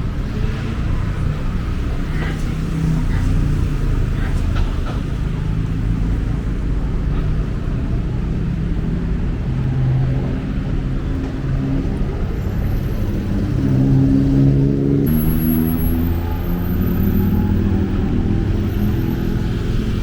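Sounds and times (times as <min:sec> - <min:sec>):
motor vehicle engines running: 0:00.0 - 0:20.0.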